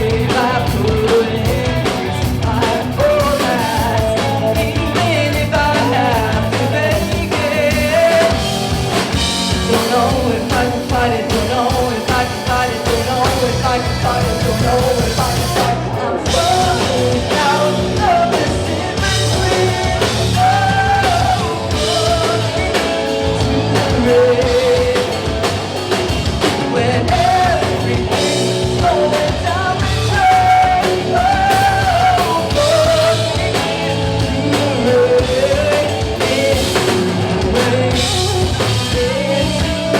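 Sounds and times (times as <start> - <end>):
drum kit: 0.0 - 39.9
electric guitars: 0.0 - 39.9
person singing: 0.0 - 39.9.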